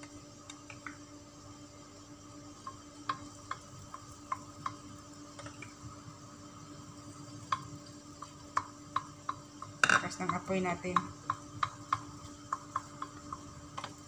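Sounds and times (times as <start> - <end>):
egg sizzling in pan: 0.0 - 14.0.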